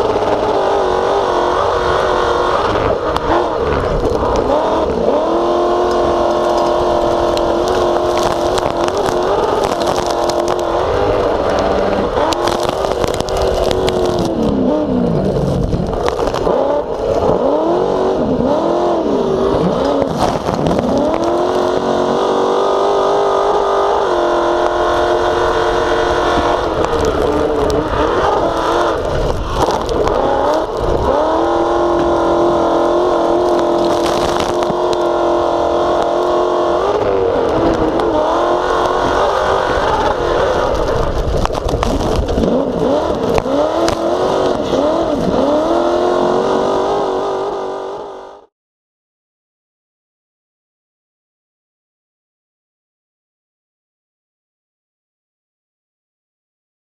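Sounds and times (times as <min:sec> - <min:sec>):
truck engine revving high: 0:00.0 - 0:48.5.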